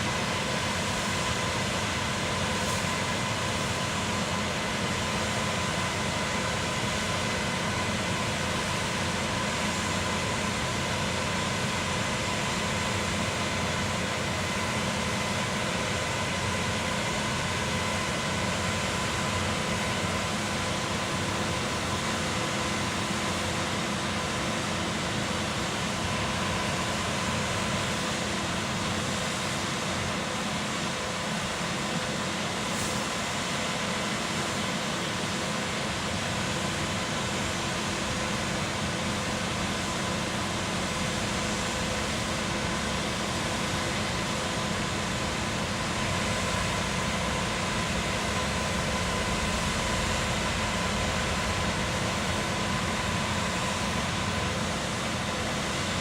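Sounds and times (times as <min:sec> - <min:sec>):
concrete pump machinery drone: 0:00.0 - 0:56.0
faint mechanical whine: 0:00.0 - 0:56.0.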